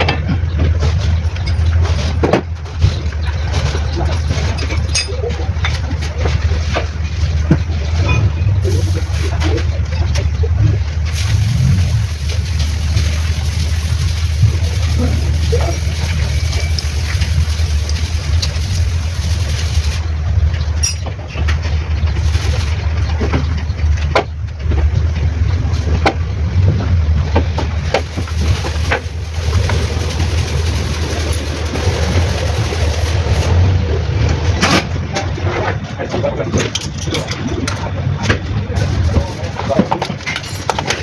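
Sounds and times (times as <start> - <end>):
engine knocking: 0.0 - 34.9, 38.2 - 41.0
diesel engine rumbling: 0.0 - 41.0.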